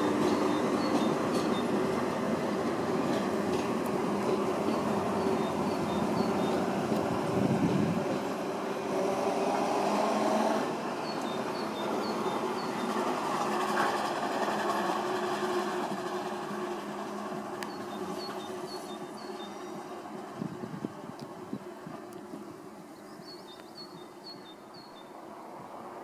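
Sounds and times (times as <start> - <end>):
electric train running: 0.0 - 22.5.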